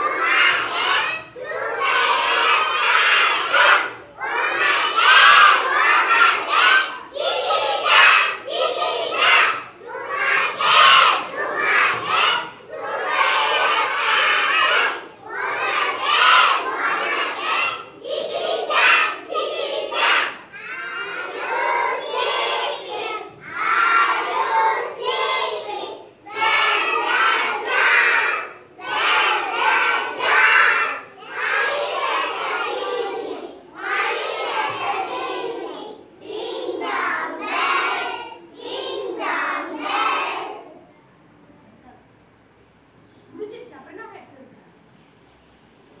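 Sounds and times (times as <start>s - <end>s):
children shouting a rhyme in unison: 0.0s - 40.9s.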